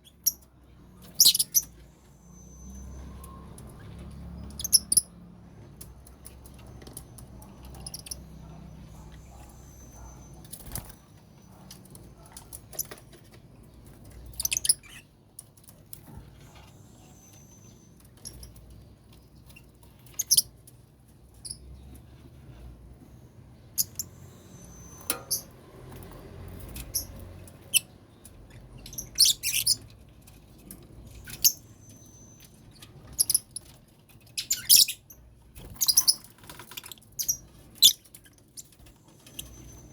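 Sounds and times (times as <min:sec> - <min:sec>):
lovebirds chirping: 0:00.0 - 0:15.2, 0:16.1 - 0:22.8, 0:23.4 - 0:25.6, 0:26.5 - 0:39.9.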